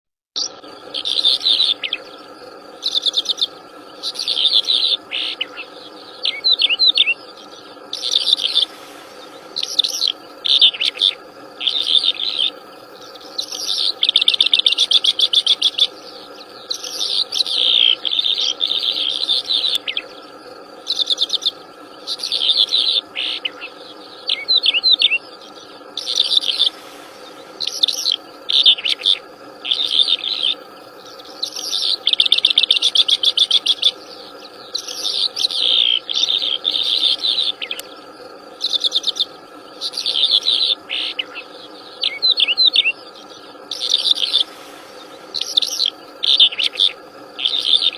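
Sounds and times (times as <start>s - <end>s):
songbird chirping and trilling: 0.4s - 47.9s
steady background drone: 0.4s - 47.9s.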